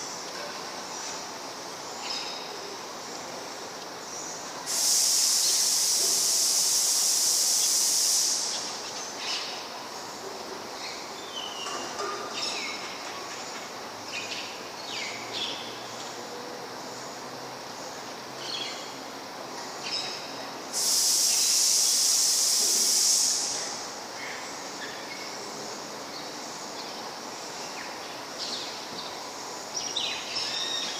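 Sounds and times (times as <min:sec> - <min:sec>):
faint background noise: 0:00.0 - 0:30.9
loud steady hiss: 0:00.0 - 0:30.9.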